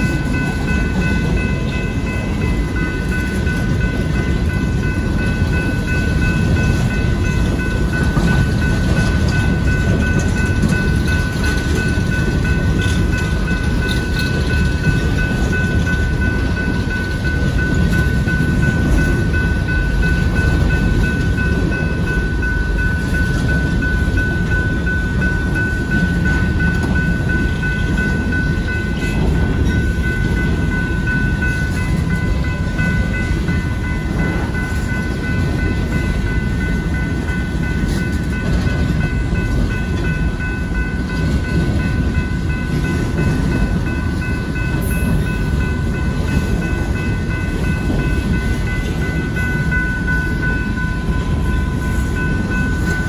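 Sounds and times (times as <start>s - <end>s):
high ringing tone: 0.0s - 53.0s
train wheels rumbling on rail: 0.0s - 53.0s.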